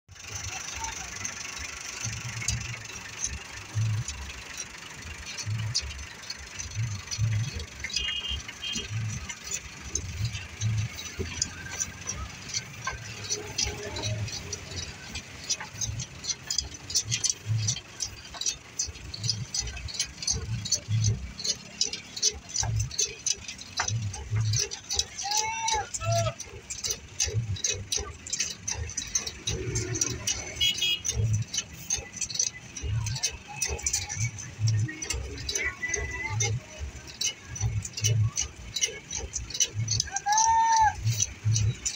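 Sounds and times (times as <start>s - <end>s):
tractor engine running: 0.0s - 41.9s
sharp clicks and scrapes: 0.1s - 41.9s.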